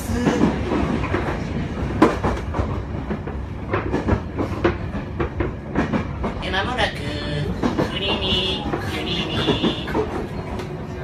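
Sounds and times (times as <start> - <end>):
train car rumble with clacks: 0.0 - 11.0.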